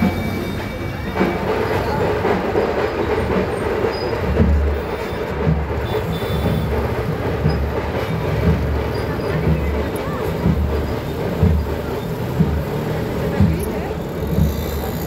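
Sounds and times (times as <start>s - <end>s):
crowd noise: 0.0s - 15.0s
scooter and motorbike traffic: 0.0s - 15.0s.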